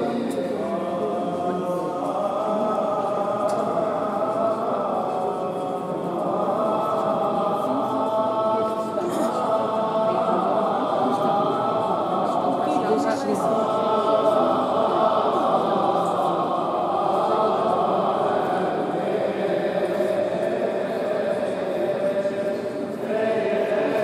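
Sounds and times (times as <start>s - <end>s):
voices singing slow chant: 0.0s - 24.0s.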